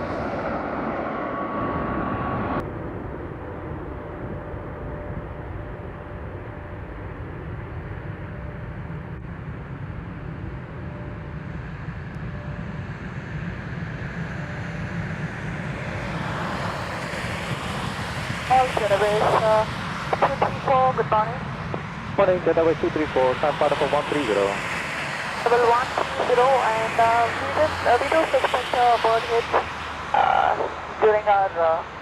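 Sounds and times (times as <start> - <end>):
distant jet engine rumble: 0.0 - 32.0.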